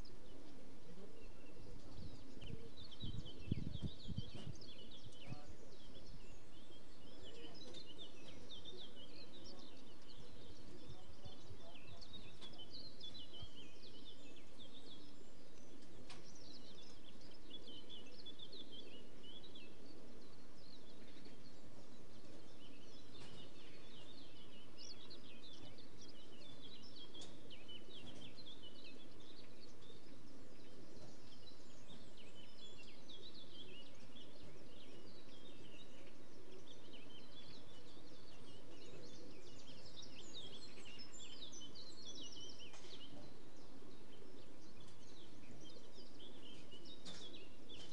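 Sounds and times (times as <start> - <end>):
songbirds chirping and singing: 0.0 - 47.9.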